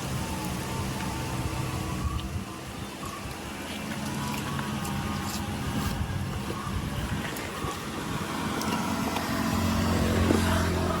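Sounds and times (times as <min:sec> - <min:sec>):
outdoor background noise: 0:00.0 - 0:11.0
vehicle engine humming: 0:00.0 - 0:11.0.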